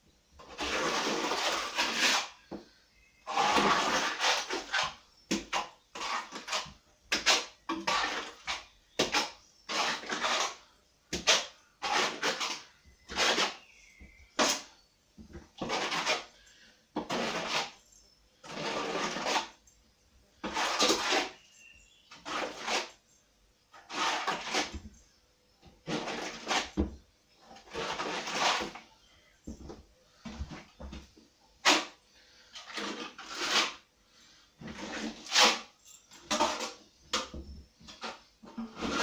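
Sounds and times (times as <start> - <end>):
plastering trowel scraping wet plaster: 0.4 - 2.6, 3.2 - 14.7, 15.5 - 17.8, 18.4 - 19.6, 20.4 - 23.0, 23.7 - 24.9, 25.8 - 28.9, 31.6 - 39.0.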